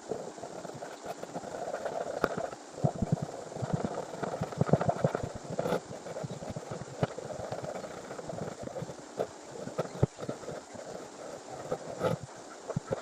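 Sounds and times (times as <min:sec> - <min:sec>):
rough scraping: 0:00.0 - 0:13.0.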